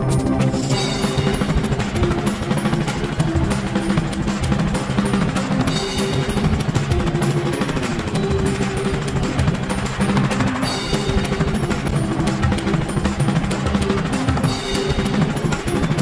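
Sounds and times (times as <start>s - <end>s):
heavy drum beat: 0.0s - 16.0s
steady bass line: 0.0s - 16.0s.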